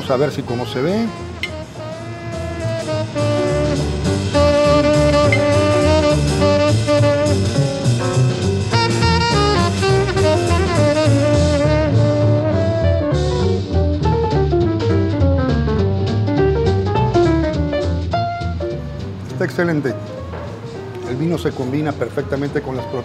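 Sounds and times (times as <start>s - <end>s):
jazz music with saxophone: 0.0s - 23.0s.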